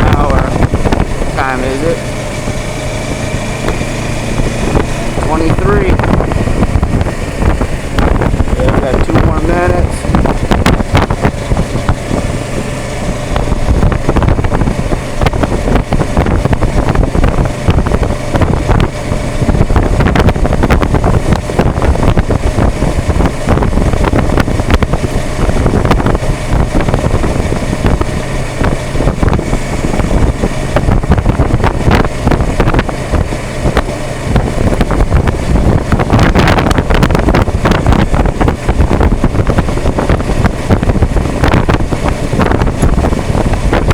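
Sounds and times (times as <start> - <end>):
motorcycle engine cruising: 0.0 - 43.9
wind buffeting microphone: 0.0 - 43.9.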